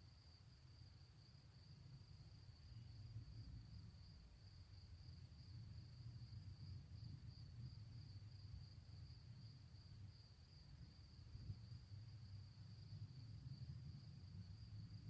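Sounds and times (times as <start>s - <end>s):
low background rumble: 0.2s - 15.0s.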